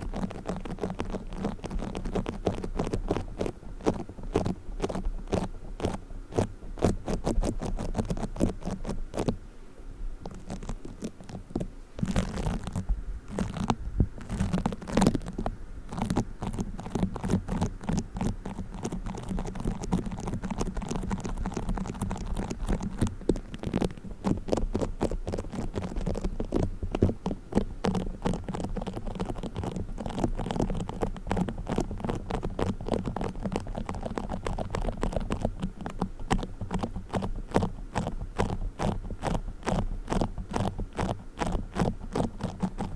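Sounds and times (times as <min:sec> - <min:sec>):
play foam crackling: 0:00.0 - 0:09.3, 0:10.3 - 0:42.9.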